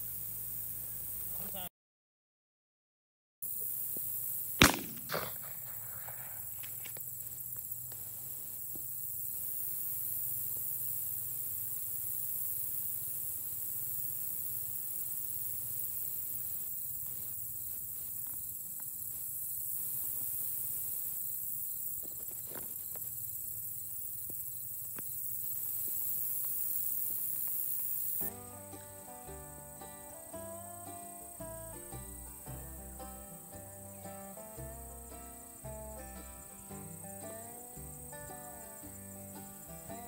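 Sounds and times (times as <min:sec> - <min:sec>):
insect chorus: 0:00.0 - 0:01.7, 0:03.4 - 0:40.0.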